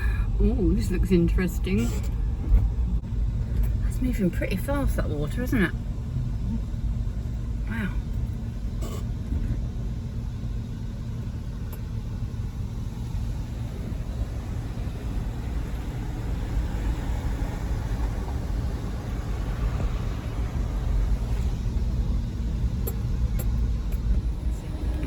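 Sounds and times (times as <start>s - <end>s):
car engine rumble: 0.0s - 25.0s.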